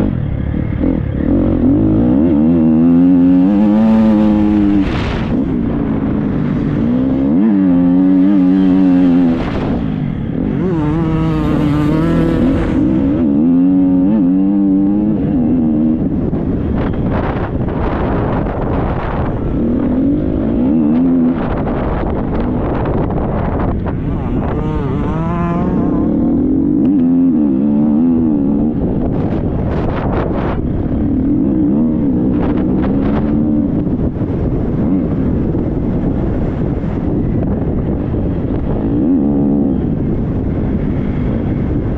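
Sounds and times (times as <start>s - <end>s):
motorcycle engine revving: 0.0s - 41.9s
wind rushing over microphone: 0.0s - 41.9s.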